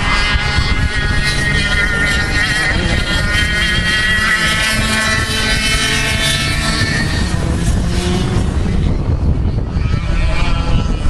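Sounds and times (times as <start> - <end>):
low rumble: 0.0 - 11.0
racing kart engines at high revs: 0.0 - 11.0.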